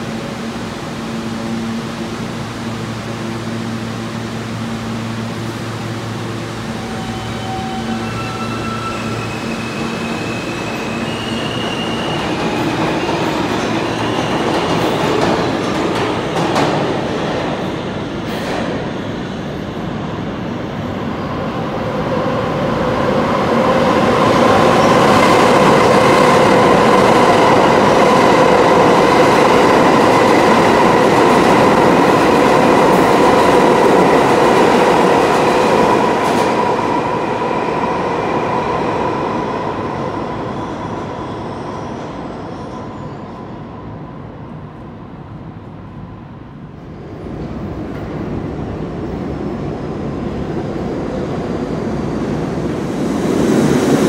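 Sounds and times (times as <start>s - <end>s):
steady train whine: 0.0s - 54.0s
subway train rumble: 0.0s - 54.0s.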